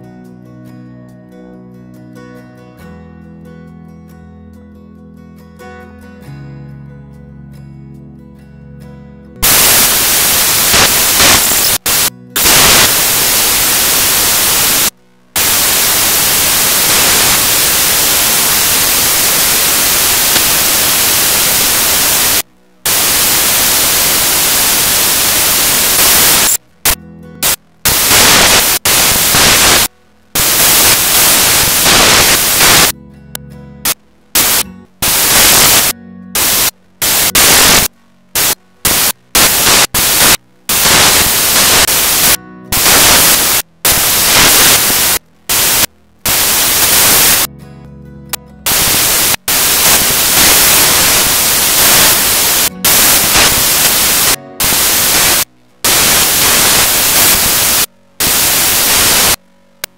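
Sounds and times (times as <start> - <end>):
loud hissing static: 9.4 - 33.0, 33.8 - 47.5, 48.6 - 59.9.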